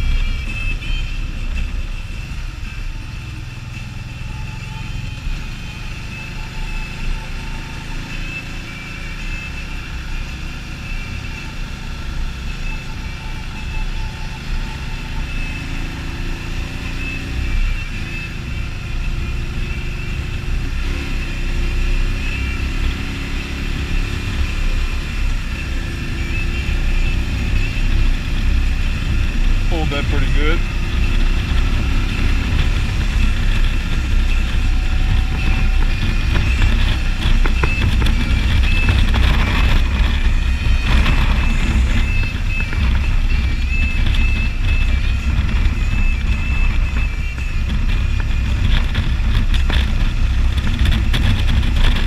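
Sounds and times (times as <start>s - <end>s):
motorcycle engine running: 0.0s - 52.0s
wind rumble on microphone: 9.2s - 52.0s.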